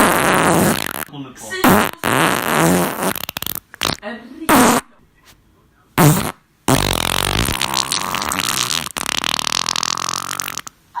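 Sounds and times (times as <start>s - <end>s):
farting: 0.0s - 4.9s, 6.0s - 10.8s.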